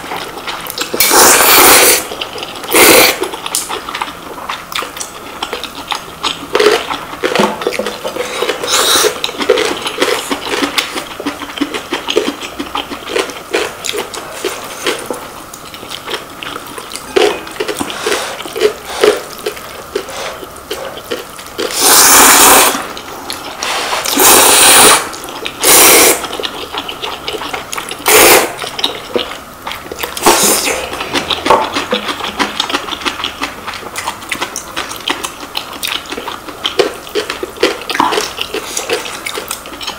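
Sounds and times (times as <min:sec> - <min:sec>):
noodle slurping: 0:00.0 - 0:39.9
wet chewing: 0:00.0 - 0:39.9.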